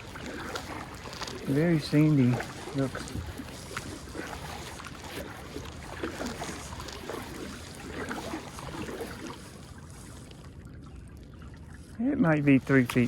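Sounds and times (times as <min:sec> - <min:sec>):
paddle splashing in water: 0:00.0 - 0:13.0
rushing water: 0:00.0 - 0:13.0.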